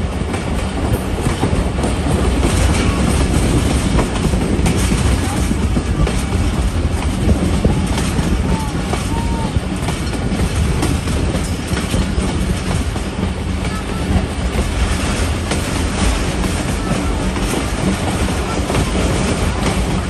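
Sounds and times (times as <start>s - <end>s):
train carriages rumbling and rattling: 0.0s - 20.0s.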